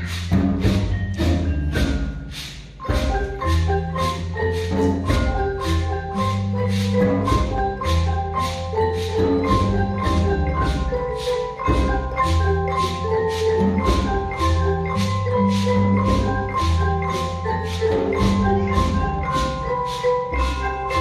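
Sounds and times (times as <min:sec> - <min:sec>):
xylophones and glockenspiels playing: 0:00.0 - 0:21.0.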